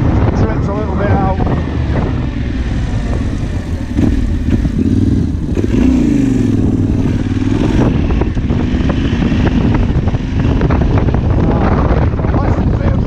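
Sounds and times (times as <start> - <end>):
motorcycle engine running: 0.8 - 13.0.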